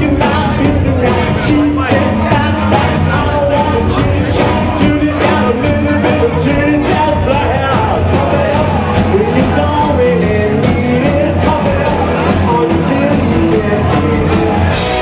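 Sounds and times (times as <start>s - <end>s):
drums steady beat: 0.0s - 15.0s
live rock band playing: 0.0s - 15.0s.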